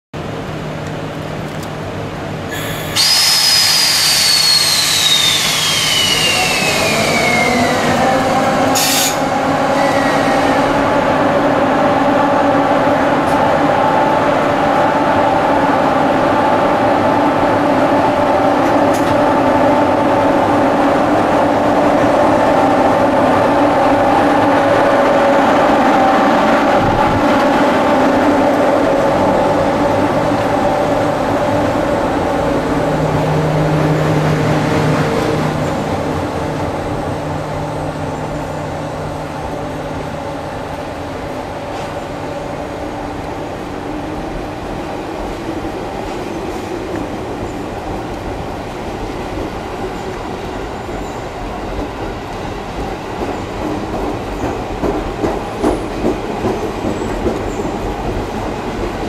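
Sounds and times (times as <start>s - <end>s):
electric locomotive whine: 0.2s - 59.0s
train hum: 0.2s - 59.0s.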